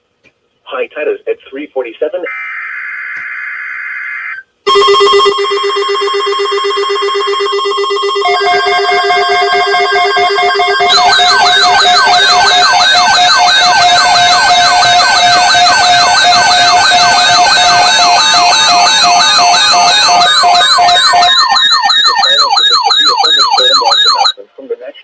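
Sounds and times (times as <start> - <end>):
electronic siren-like alert tone: 2.3 - 24.4.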